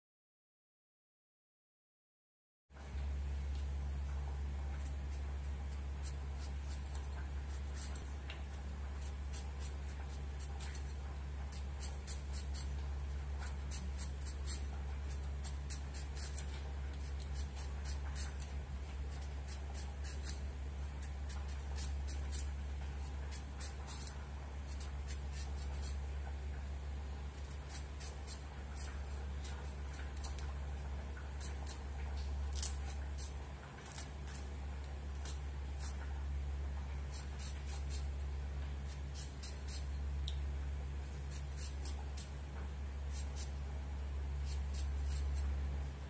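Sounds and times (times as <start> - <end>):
steady low hum: 2.7 - 46.0
blade scraping mango skin: 4.7 - 26.1, 27.3 - 36.1, 37.0 - 40.4, 41.0 - 43.7, 44.3 - 45.6.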